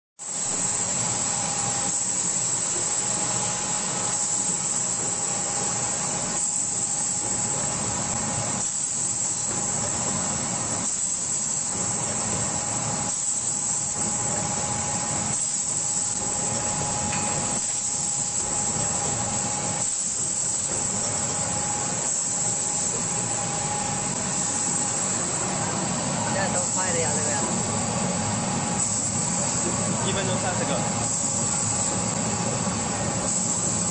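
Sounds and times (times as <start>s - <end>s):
printing machine hissing: 0.2s - 33.9s
thin steady whine: 0.2s - 33.9s.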